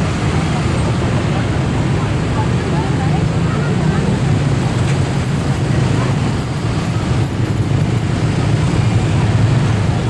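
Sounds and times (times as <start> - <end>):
motorbike engines: 0.0 - 10.0.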